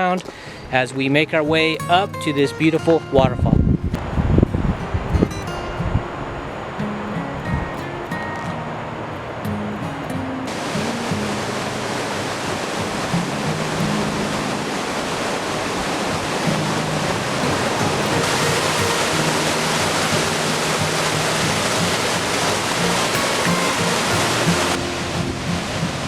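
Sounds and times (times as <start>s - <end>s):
rushing water: 0.0s - 26.0s
background music low notes: 0.7s - 26.0s.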